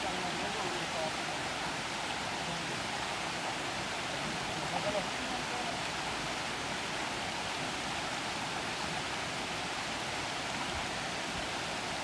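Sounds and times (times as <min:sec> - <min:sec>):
water rushing over stones: 0:00.0 - 0:12.0.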